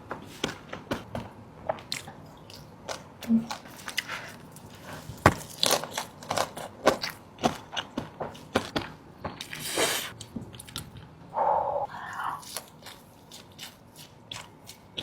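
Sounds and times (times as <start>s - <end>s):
crunchy food chewing: 1.8s - 11.1s, 12.0s - 15.0s.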